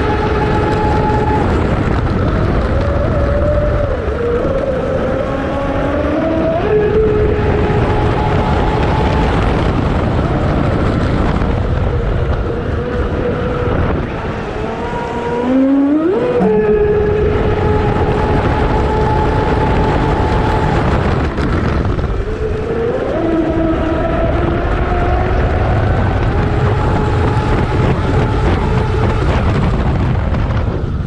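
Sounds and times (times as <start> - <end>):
electric motor whine: 0.0 - 30.1
rushing water and wind: 0.0 - 31.0.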